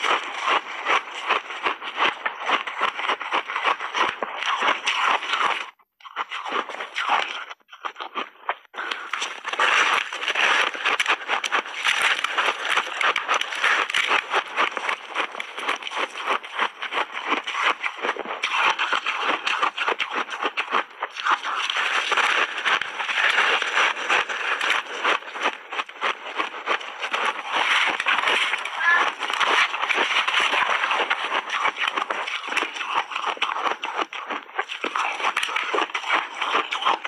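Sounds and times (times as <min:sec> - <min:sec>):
crunching and chewing ice: 0:00.0 - 0:37.0.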